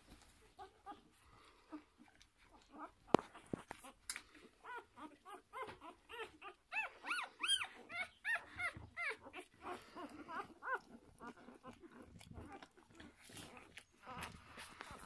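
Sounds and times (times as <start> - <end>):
puppies squeaking and whining: 0.3 - 15.0.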